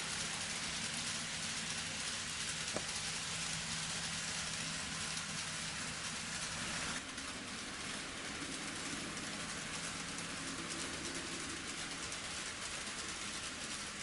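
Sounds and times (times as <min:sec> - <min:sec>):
low motor hum: 0:00.0 - 0:14.0
model train rolling hiss: 0:00.0 - 0:14.0.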